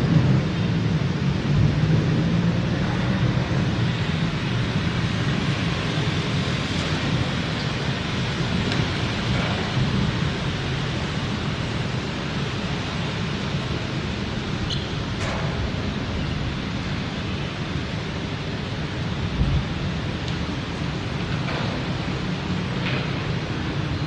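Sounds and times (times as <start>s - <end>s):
heavy rain falling: 2.7s - 24.0s.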